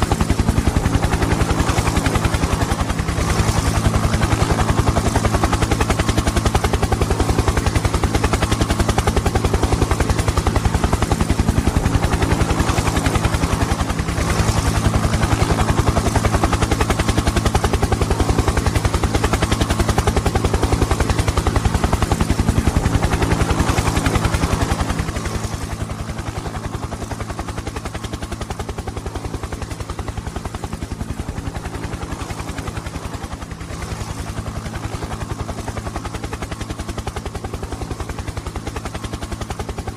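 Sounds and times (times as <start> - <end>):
helicopter rotor beating: 0.0 - 39.9.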